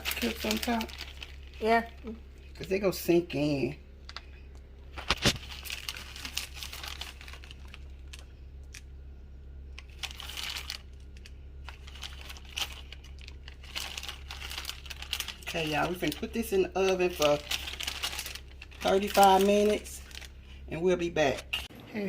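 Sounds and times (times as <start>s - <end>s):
plastic bag crinkling: 0.0s - 2.2s, 4.9s - 9.0s, 9.7s - 21.7s.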